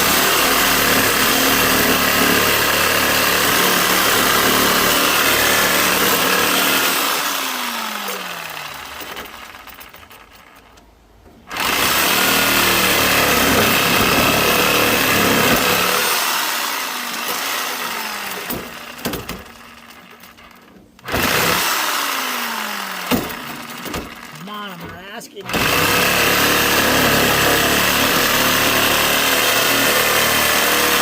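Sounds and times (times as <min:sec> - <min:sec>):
power tool motor running: 0:00.0 - 0:10.8, 0:11.5 - 0:31.0.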